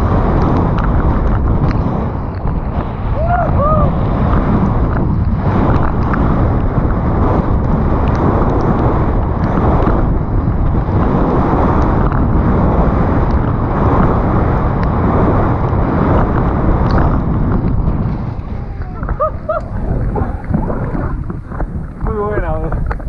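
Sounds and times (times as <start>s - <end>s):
bike clicks and rattles: 0.0s - 2.8s, 4.2s - 23.0s
tyre and trail noise: 0.0s - 23.0s
wind rushing over microphone: 0.0s - 23.0s.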